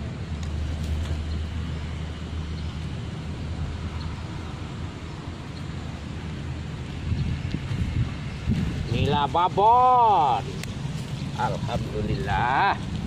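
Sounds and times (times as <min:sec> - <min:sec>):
faint outdoor background noise: 0:00.0 - 0:13.0
low motor hum: 0:00.0 - 0:13.0.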